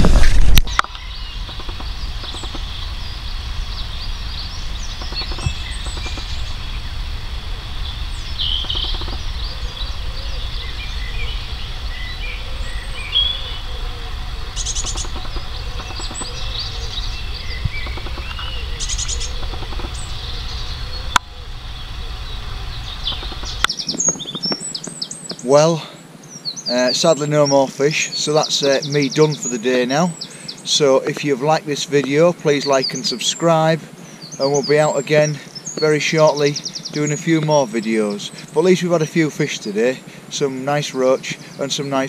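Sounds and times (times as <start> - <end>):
dry rattling bird calls: 0.0 - 42.0
songbirds chirping and warbling: 0.0 - 42.0
steady low rumble: 0.0 - 42.0.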